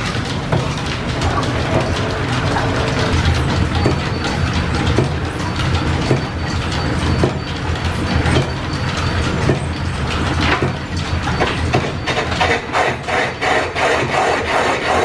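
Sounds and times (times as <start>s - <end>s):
gears and belts clattering: 0.0s - 15.0s
lathe machinery running: 0.0s - 15.0s.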